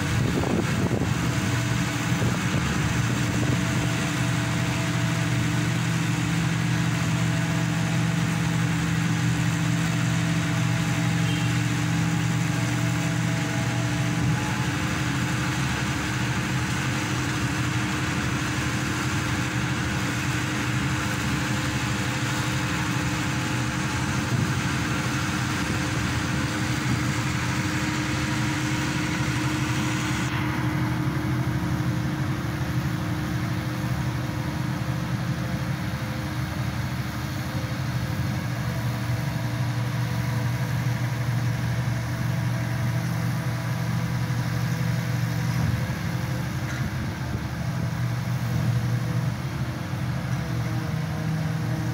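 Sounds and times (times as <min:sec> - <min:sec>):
pile driver engine drone: 0:00.0 - 0:51.9.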